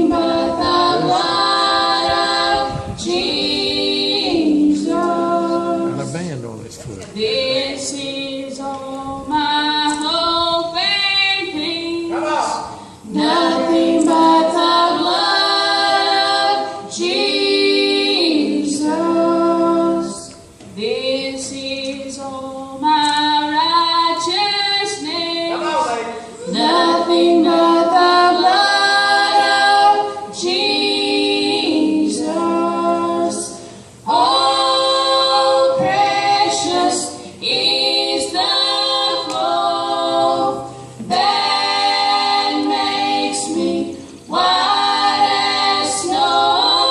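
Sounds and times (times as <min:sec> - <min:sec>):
vocal group singing in harmony: 0:00.0 - 0:46.9.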